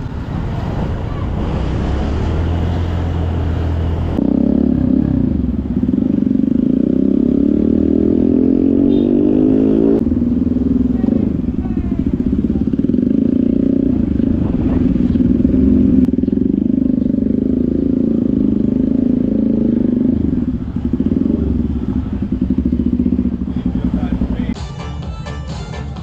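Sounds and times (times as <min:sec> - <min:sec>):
motorcycle engine running: 0:00.0 - 0:24.6.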